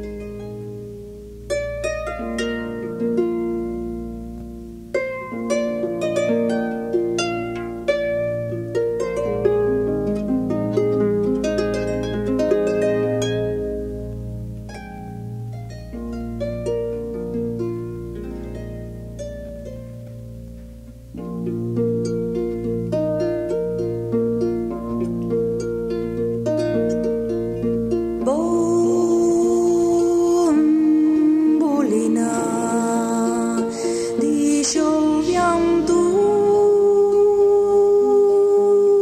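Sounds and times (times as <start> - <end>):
plucked string folk melody: 0.0 - 39.0.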